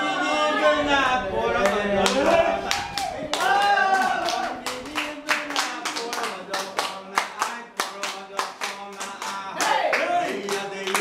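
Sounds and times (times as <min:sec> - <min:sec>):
hands clapping in rhythm: 0:01.6 - 0:11.0.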